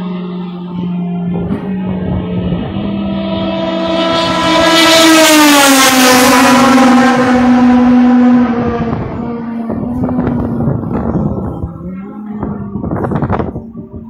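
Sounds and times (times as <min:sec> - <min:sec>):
race car passing at speed: 0:00.0 - 0:13.9.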